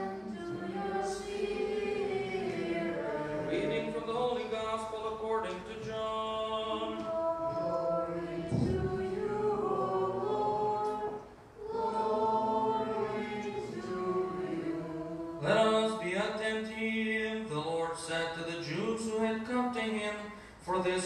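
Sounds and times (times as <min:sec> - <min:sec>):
unaccompanied liturgical chant: 0:00.0 - 0:21.0.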